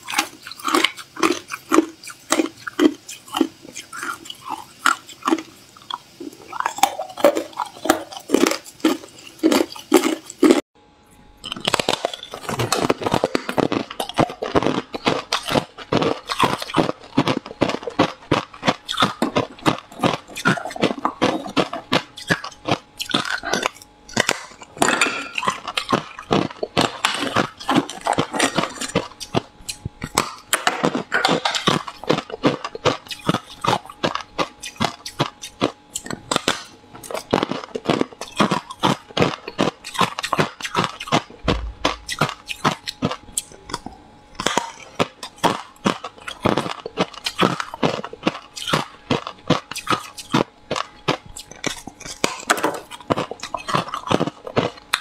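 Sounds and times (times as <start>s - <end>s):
ice being crunched and chewed: 0.0s - 10.6s, 11.4s - 55.0s.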